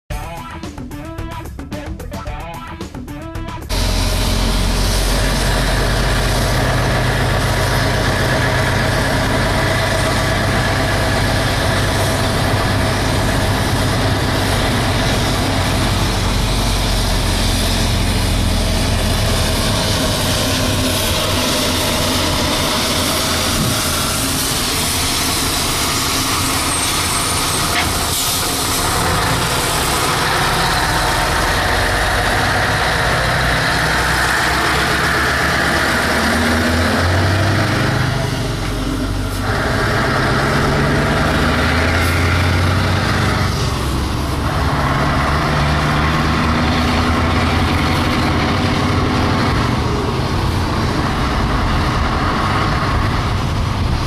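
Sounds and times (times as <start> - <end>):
truck engine with open exhaust: 3.7 - 54.0.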